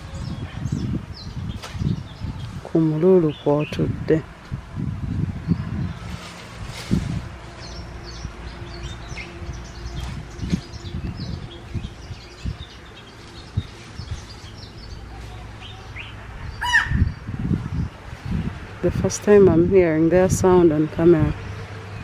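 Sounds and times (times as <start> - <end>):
birds chirping: 0.0 - 4.3, 5.4 - 22.0
microphone thumps and rumble: 0.0 - 15.1, 16.4 - 20.6.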